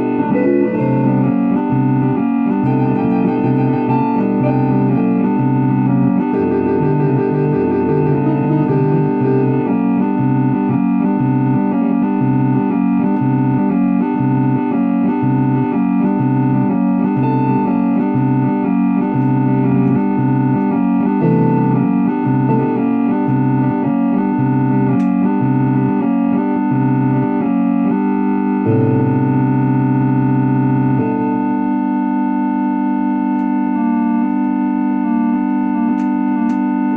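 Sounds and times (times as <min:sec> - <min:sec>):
electronic organ chords: 0:00.0 - 0:36.9.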